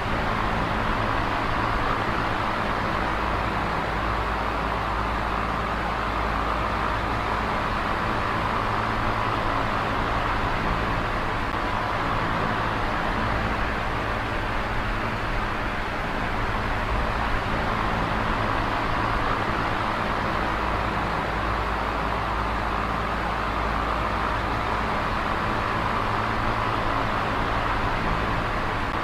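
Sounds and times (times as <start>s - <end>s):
electric fan whirring: 0.0s - 29.0s
fan motor hum: 0.0s - 29.0s.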